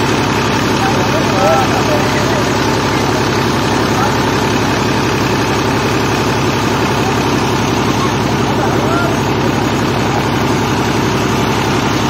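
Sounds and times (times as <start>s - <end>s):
pump engine running steadily: 0.0s - 12.0s
water gushing from a pipe: 0.0s - 12.0s.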